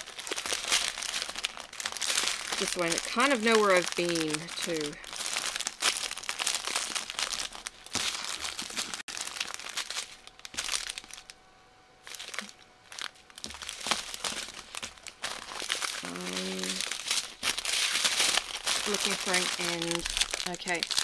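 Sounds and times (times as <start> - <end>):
plastic bags crinkling: 0.0 - 11.4, 12.0 - 21.0.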